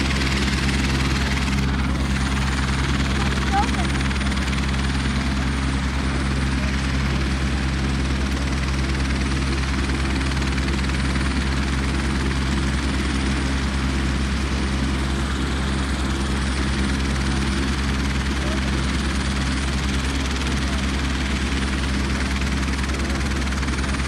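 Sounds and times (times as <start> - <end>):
helicopter rotor running: 0.0 - 24.0.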